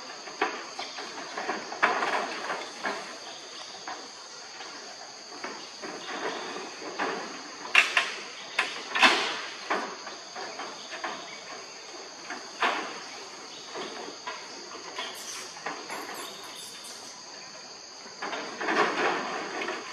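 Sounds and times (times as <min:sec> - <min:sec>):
high insect drone: 0:00.0 - 0:19.9
monkeys scuffling on metal roof: 0:00.1 - 0:17.4, 0:18.0 - 0:19.9.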